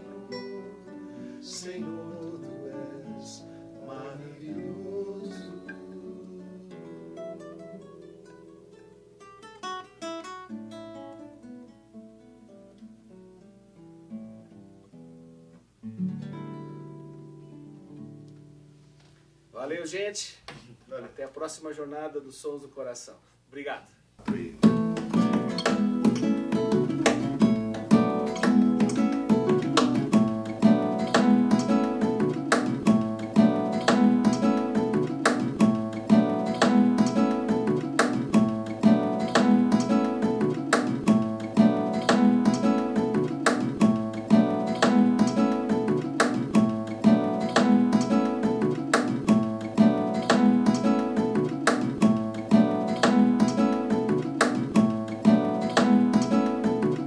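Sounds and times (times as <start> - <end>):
acoustic guitar strumming: 0.0 - 19.5, 24.2 - 57.0.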